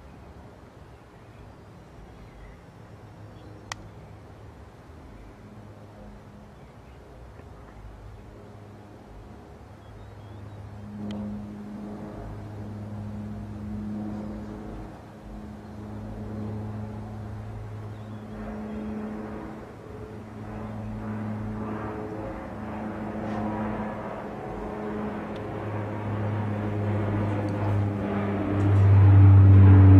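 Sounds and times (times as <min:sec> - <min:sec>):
low mechanical hum: 0:00.0 - 0:29.9
vehicles passing: 0:01.8 - 0:29.9.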